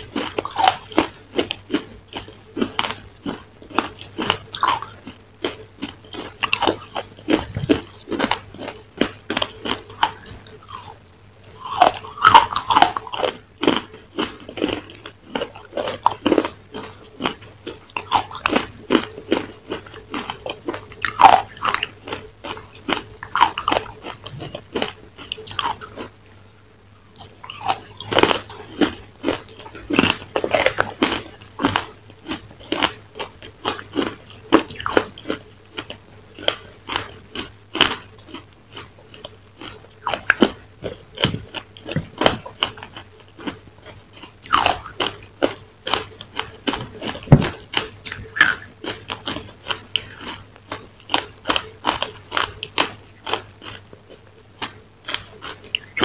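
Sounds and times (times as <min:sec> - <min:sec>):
crunching and chewing crumbly food: 0:00.0 - 0:56.0.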